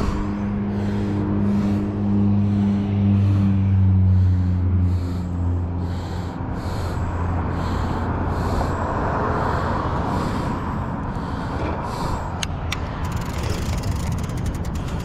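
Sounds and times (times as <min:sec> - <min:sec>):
passing vehicle engine hum: 0:00.0 - 0:15.0
steady rushing noise: 0:00.0 - 0:15.0.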